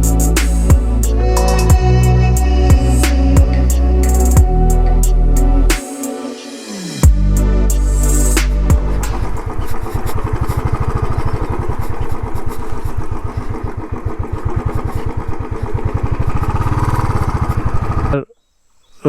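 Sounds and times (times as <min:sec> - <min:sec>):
motorcycle engine running: 0:00.0 - 0:05.8, 0:07.0 - 0:18.3.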